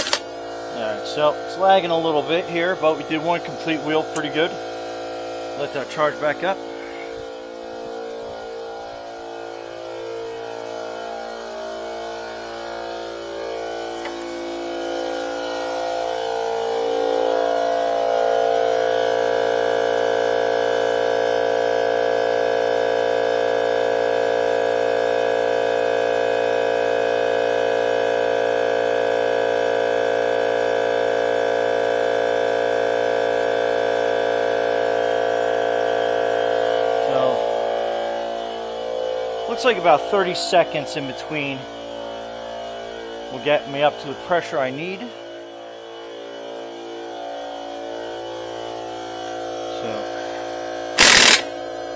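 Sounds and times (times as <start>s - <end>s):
air compressor motor humming: 0.0s - 51.9s.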